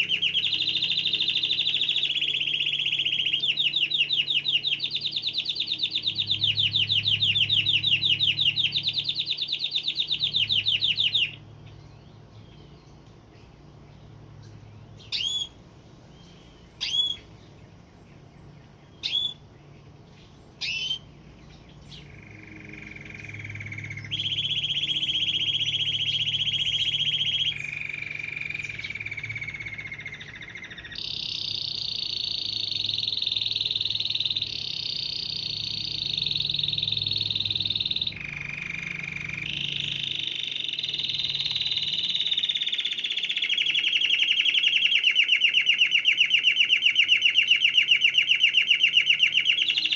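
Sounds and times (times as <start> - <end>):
canary chirps: 0.0 - 49.9.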